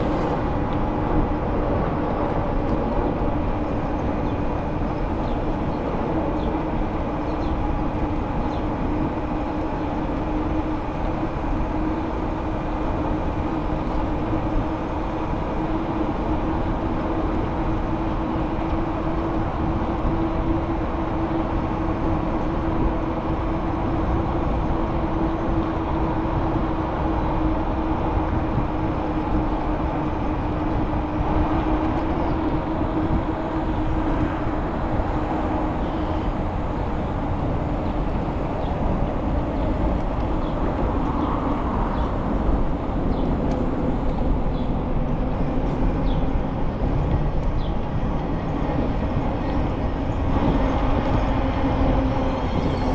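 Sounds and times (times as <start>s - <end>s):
tyres humming on road: 0.0s - 52.9s
wind rumble on microphone: 0.0s - 52.9s.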